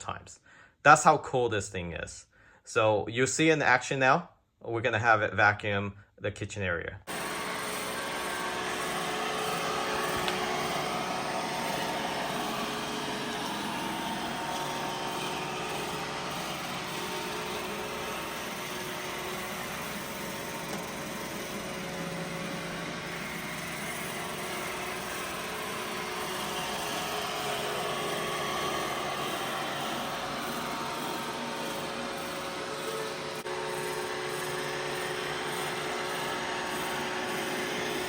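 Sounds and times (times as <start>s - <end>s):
robot vacuum motor whir: 7.1s - 38.0s.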